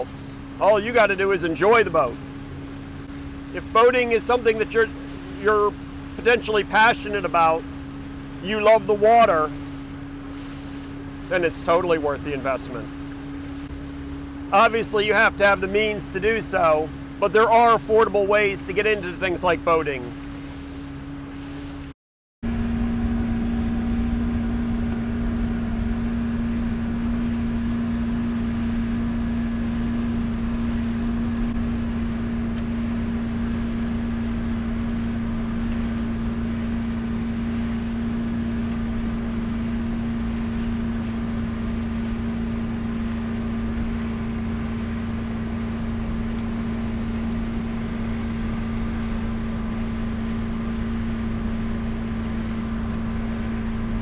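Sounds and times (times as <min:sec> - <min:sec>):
outboard motor droning: 0:00.0 - 0:54.0.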